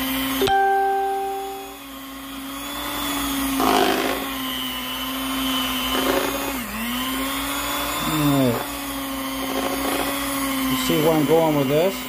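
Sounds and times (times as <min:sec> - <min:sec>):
electric hand mixer churning potatoes: 0:00.0 - 0:12.0.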